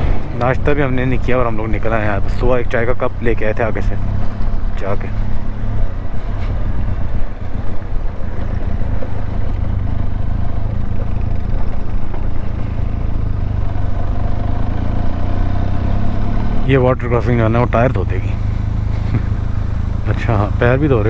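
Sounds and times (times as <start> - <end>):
motorcycle engine running: 0.0 - 21.0
wind and road rumble: 0.0 - 21.0.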